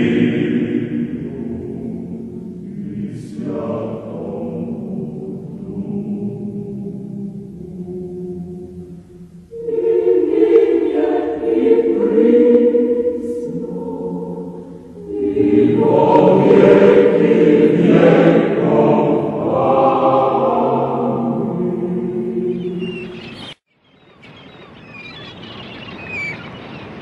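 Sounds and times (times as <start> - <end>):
choir singing liturgical chant: 0.0 - 23.6.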